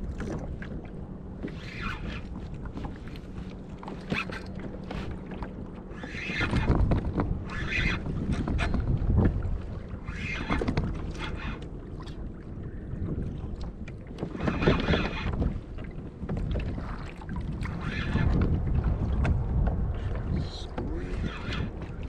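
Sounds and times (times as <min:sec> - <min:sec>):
small waves splashing on hull: 0:00.0 - 0:22.0
wind buffeting microphone: 0:00.0 - 0:22.0.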